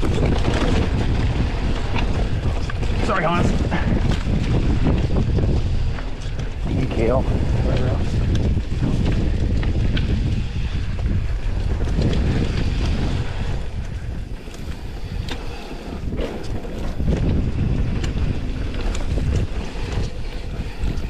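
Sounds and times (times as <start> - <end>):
bike rattling: 0.0 - 21.0
bike tyre noise: 0.0 - 21.0
wind buffeting microphone: 0.0 - 21.0.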